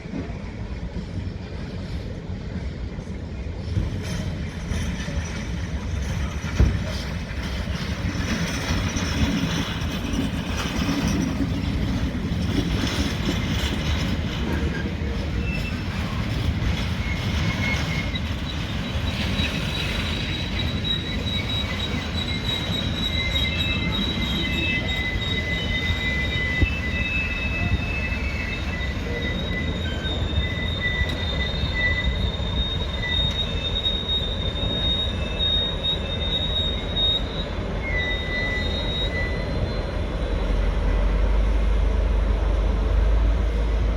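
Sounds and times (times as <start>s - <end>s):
train wheels rumbling on rails: 0.0s - 43.9s
high-pitched wheel squeal: 4.1s - 40.7s.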